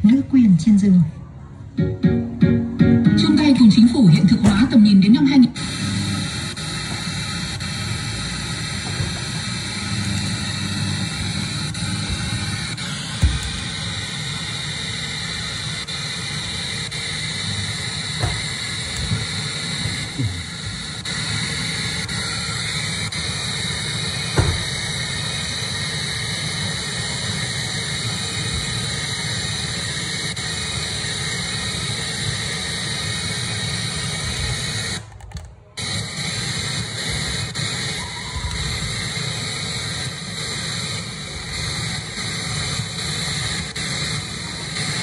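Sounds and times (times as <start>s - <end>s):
radio static hiss: 3.2s - 45.0s.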